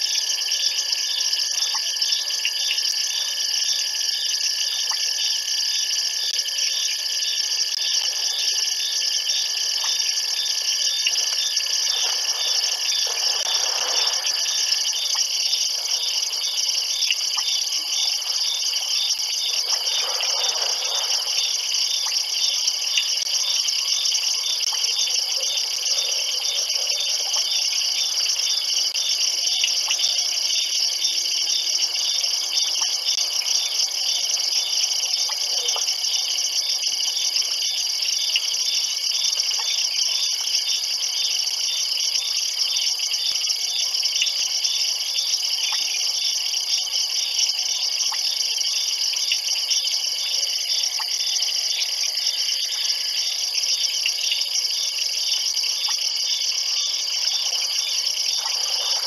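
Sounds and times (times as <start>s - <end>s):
crickets and insects trilling: 0.0s - 59.0s.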